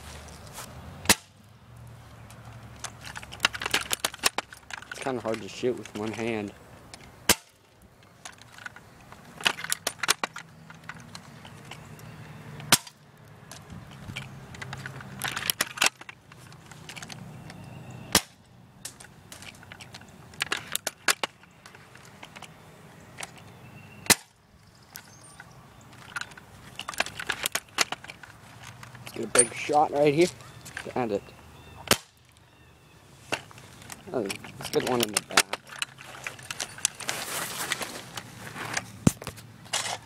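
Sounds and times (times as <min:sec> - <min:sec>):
clicks and clatter: 0:02.3 - 0:22.6, 0:24.9 - 0:31.0, 0:33.3 - 0:40.0.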